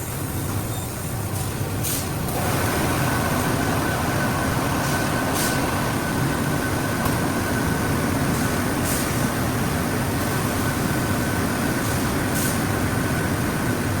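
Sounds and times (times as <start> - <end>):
machine running: 2.1 - 14.0
thin constant whine: 2.2 - 14.0.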